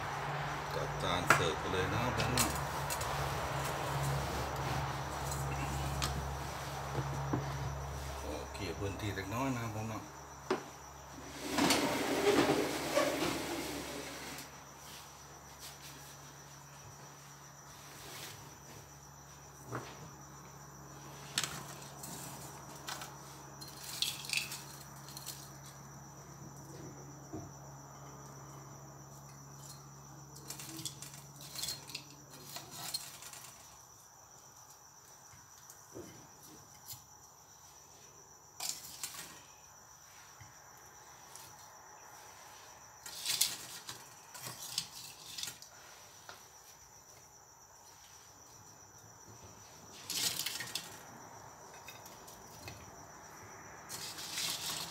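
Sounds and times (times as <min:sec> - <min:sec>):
crickets chirring: 0:00.0 - 0:54.9.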